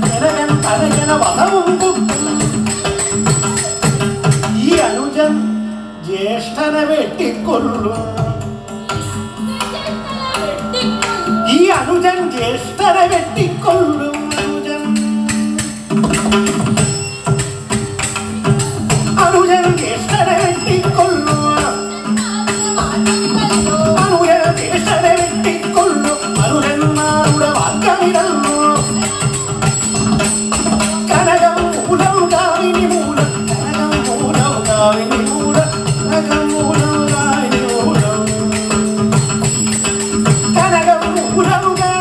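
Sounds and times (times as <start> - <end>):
hand cymbals jingling: 0.0 - 5.7, 8.2 - 42.0
drum strokes: 7.2 - 42.0.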